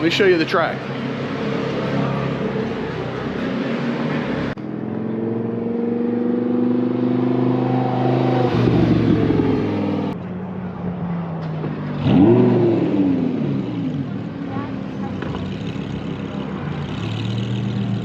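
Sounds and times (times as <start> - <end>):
sports car engine accelerating: 0.8 - 10.2, 11.6 - 18.0.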